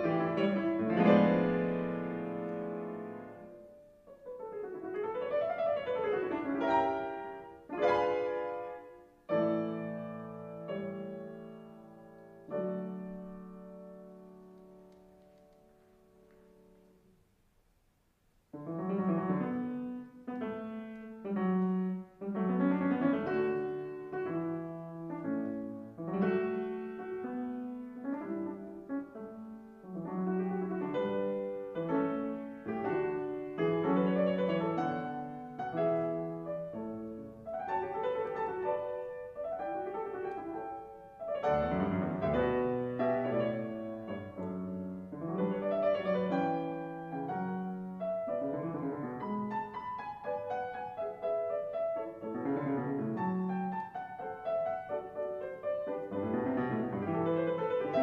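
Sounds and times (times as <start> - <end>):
solo classical piano: 0.0 - 58.0.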